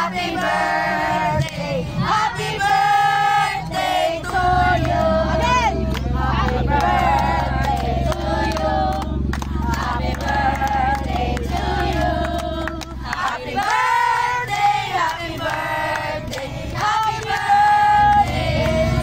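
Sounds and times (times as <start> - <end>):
group singing a birthday song: 0.0 - 19.0
people clapping along: 0.0 - 19.0
steady low hum: 0.0 - 19.0.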